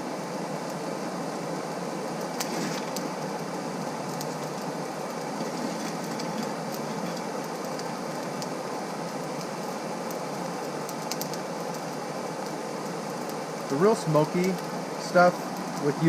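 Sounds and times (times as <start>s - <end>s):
burning coal crackling: 0.0s - 16.0s.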